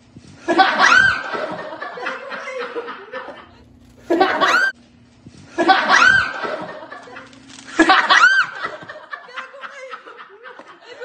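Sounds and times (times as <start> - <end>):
people laughing: 0.4 - 4.8, 5.5 - 11.0.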